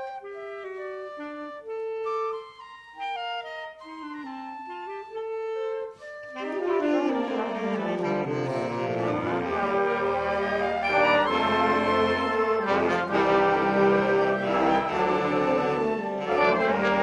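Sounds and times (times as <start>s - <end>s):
concert band with brass: 0.0s - 17.0s
woodwinds holding notes: 0.0s - 17.0s.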